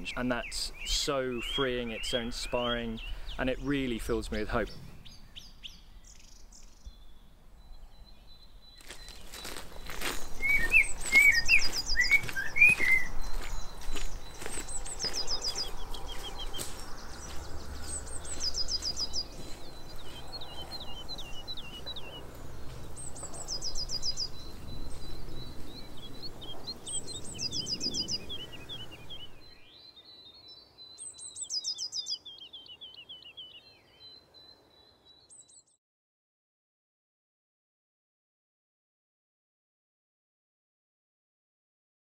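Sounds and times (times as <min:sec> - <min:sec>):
songbirds singing: 0:00.0 - 0:35.8.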